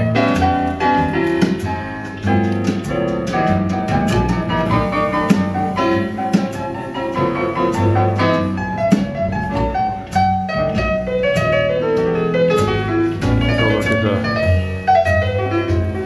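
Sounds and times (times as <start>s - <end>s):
piano music over loudspeakers: 0.0s - 16.0s.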